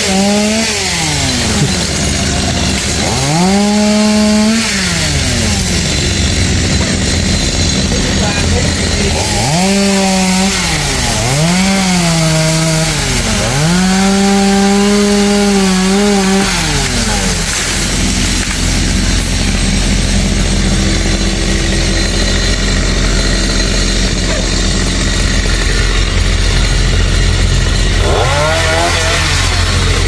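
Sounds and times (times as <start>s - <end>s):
chainsaw cutting wood: 0.0s - 30.0s
chainsaw idling: 0.0s - 30.0s.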